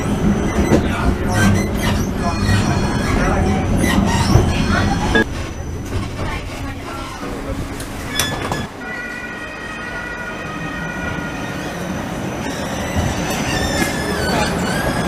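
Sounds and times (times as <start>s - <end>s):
tram rumble: 0.0s - 15.0s
tram wheels squealing: 0.0s - 15.0s
tram whining: 0.0s - 15.0s.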